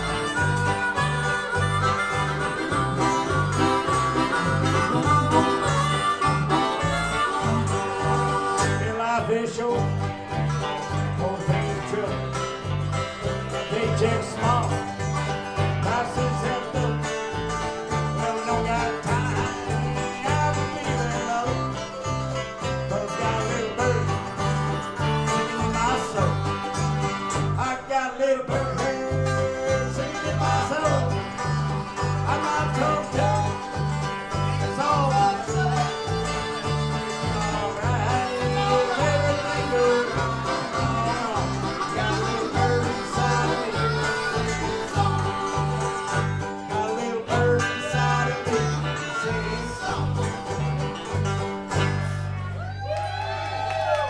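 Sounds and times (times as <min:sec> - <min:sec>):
bass notes: 0:00.0 - 0:54.0
bluegrass band playing: 0:00.0 - 0:54.0.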